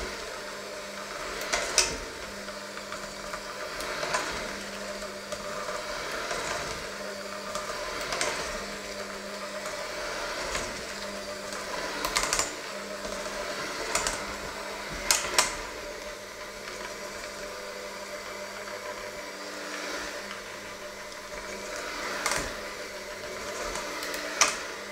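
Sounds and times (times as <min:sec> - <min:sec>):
electric hand mixer whisking: 0:00.0 - 0:24.9.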